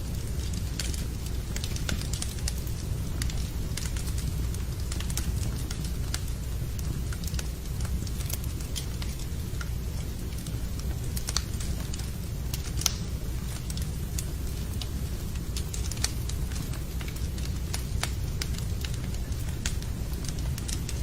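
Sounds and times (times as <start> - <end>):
fire crackling and popping: 0.0 - 21.0
fire low rumble: 0.0 - 21.0.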